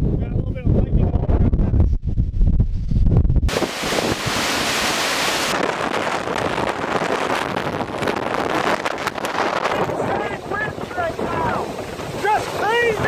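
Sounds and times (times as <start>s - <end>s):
steady rushing noise: 0.0s - 13.0s
wind buffeting microphone: 0.0s - 13.0s.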